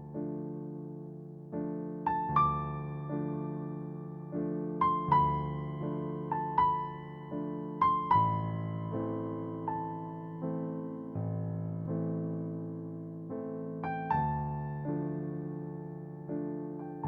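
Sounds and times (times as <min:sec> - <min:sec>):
soft piano chords and melody: 0:00.0 - 0:17.0.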